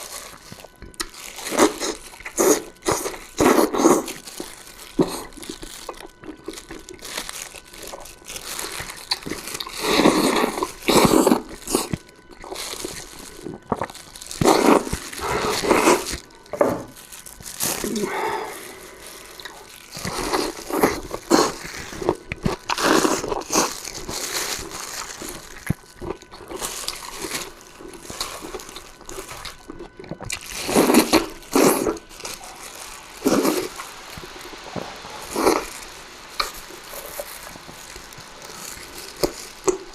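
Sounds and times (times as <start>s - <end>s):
person chewing and slurping food: 0.0s - 39.9s.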